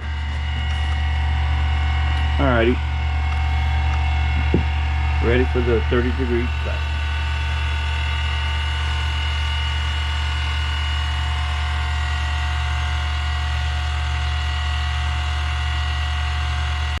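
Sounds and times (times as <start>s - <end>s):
grinding machine motor whine: 0.0s - 17.0s.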